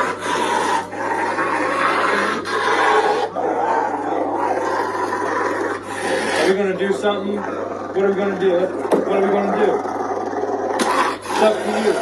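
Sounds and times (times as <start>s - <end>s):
dog growling and snarling: 0.0s - 12.0s.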